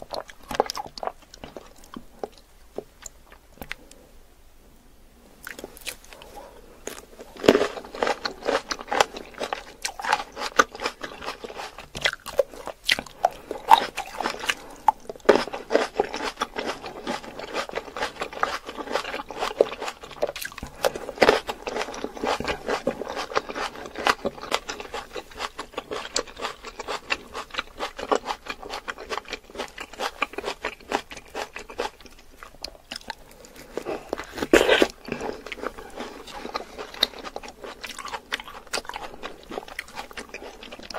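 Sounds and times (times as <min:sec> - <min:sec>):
person chewing fresh fruit: 0:00.0 - 0:04.0, 0:05.4 - 0:40.9.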